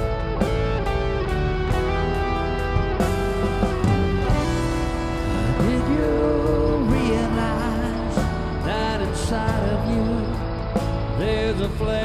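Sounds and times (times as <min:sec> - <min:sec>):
instrumental worship music with guitar: 0:00.0 - 0:12.0.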